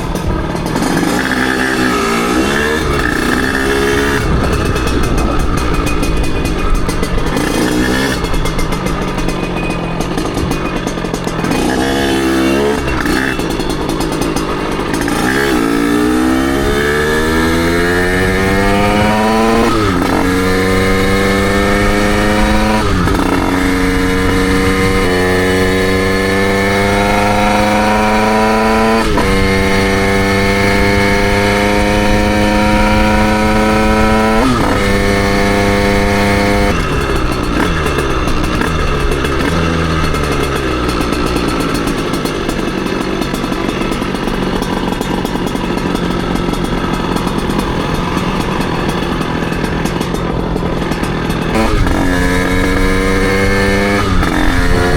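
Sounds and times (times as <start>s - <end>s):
two-stroke motorbike revving: 0.0s - 54.9s.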